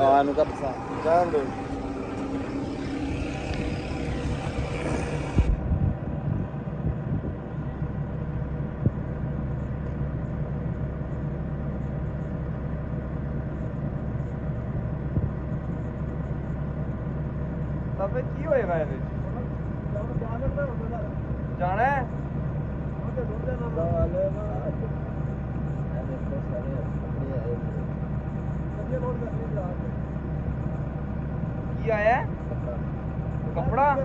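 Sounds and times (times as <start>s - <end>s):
engine running: 0.0s - 34.0s.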